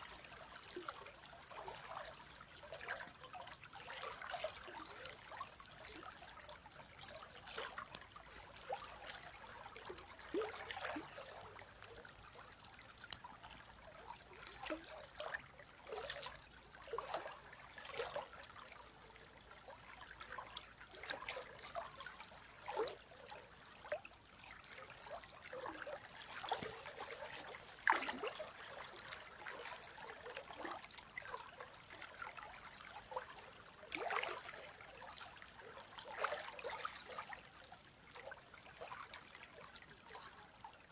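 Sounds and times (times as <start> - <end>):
river water flowing: 0.0 - 40.9
small water splashes: 0.0 - 40.9.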